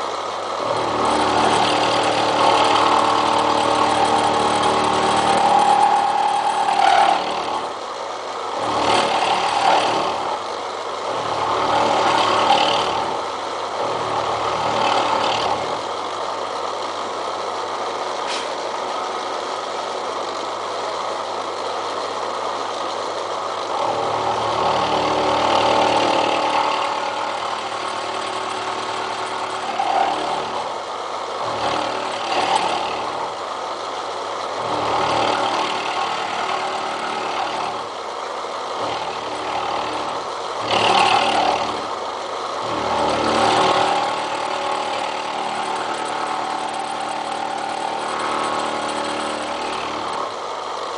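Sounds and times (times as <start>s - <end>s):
milling machine cutting steel: 0.0s - 50.9s.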